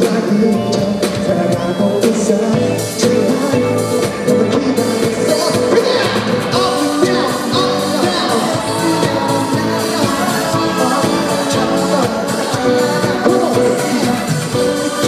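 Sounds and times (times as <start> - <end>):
live pop music with singing: 0.0 - 15.0.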